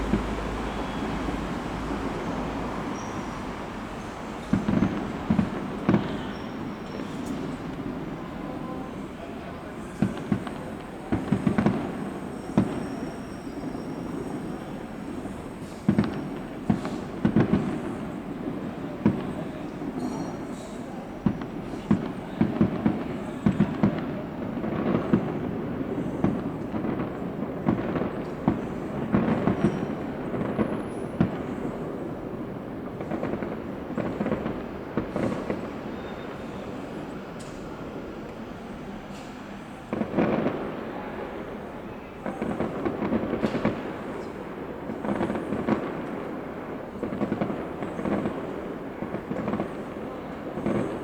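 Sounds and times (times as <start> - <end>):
fireworks bursting in sharp bangs: 0.0 - 51.0.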